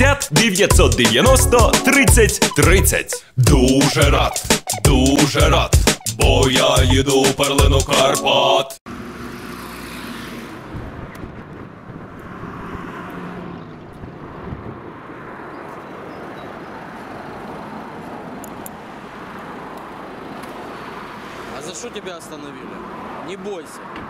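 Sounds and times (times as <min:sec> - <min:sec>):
road traffic: 0:00.0 - 0:24.0.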